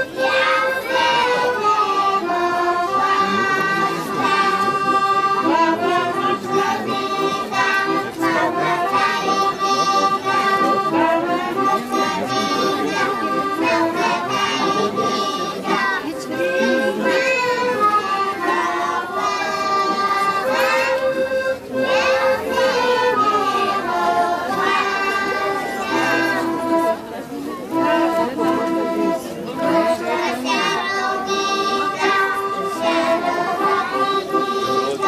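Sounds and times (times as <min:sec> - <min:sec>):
accordion folk tune: 0:00.0 - 0:35.0
child singing: 0:00.1 - 0:04.7, 0:05.5 - 0:16.1, 0:16.8 - 0:20.9, 0:21.8 - 0:26.5, 0:29.8 - 0:35.0.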